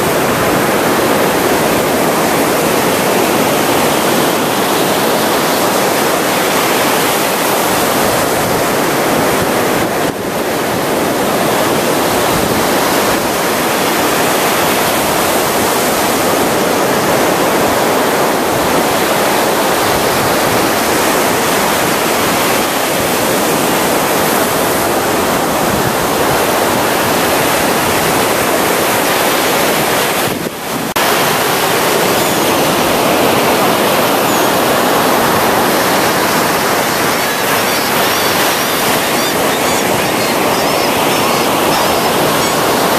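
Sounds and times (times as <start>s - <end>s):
ocean waves washing onto beach: 0.0s - 42.9s.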